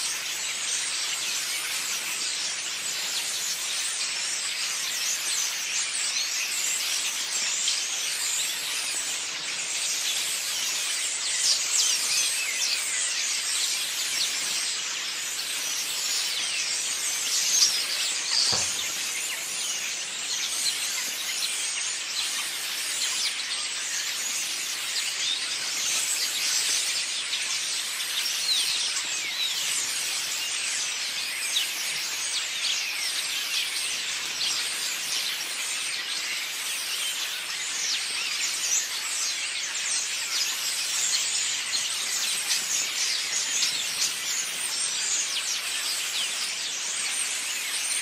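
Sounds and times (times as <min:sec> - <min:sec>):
flock of small birds chirping: 0:00.0 - 0:48.0.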